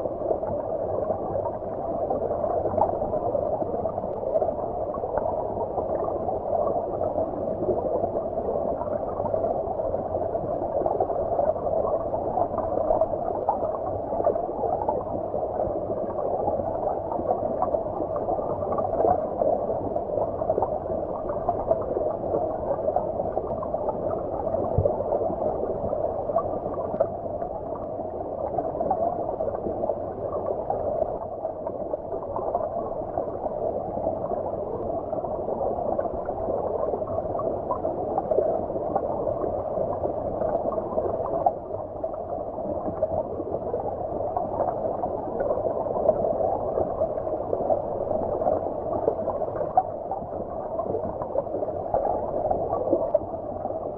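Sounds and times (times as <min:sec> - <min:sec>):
muffled underwater stream wash: 0:00.0 - 0:53.9.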